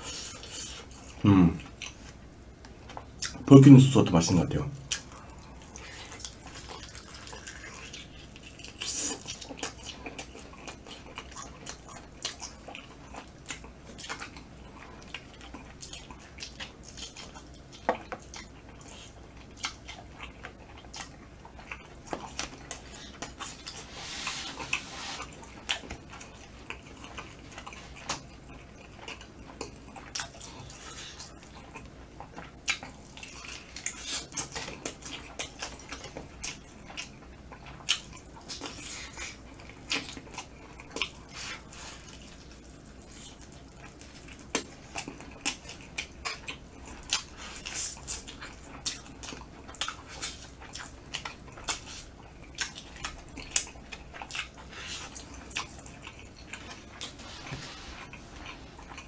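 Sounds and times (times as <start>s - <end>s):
wet chewing and lip-smacking: 0.0s - 3.5s, 4.8s - 57.2s, 58.0s - 59.0s.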